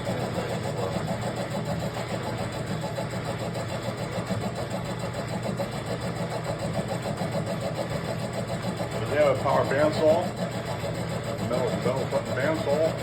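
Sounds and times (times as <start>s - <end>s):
engine running with even pulsing: 0.0s - 13.0s.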